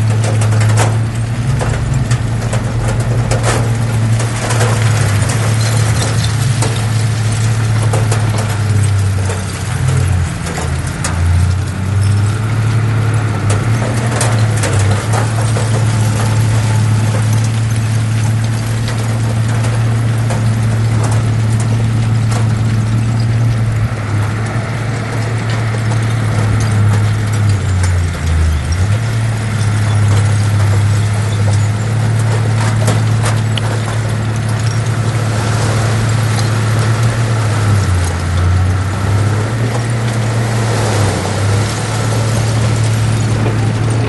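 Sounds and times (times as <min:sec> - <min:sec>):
clanks and clicks: 0:00.0 - 0:44.0
heavy diesel engine droning: 0:00.0 - 0:44.0.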